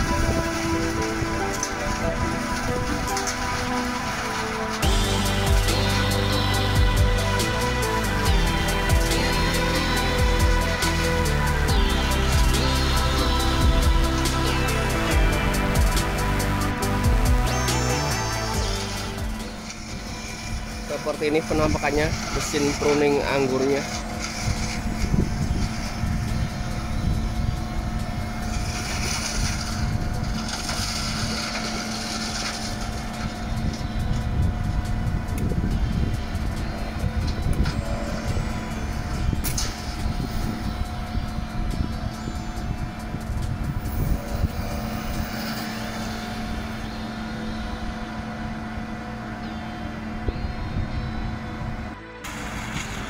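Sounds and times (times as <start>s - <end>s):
machine hiss: 0.0s - 49.1s
pruning machine engine drone: 0.0s - 53.0s.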